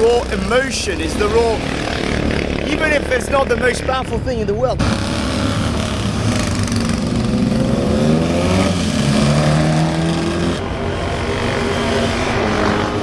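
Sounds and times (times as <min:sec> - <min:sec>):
scooter engines revving: 0:00.0 - 0:13.0.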